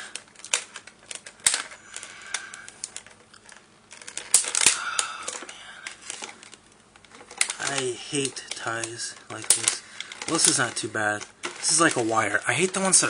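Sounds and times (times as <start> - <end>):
plastic packaging crackling: 0.0 - 13.0.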